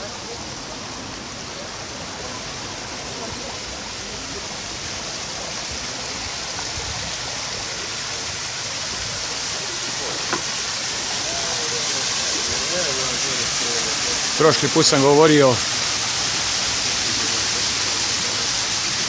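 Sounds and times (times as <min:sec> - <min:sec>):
fountain water splashing into pool: 0:00.0 - 0:19.0.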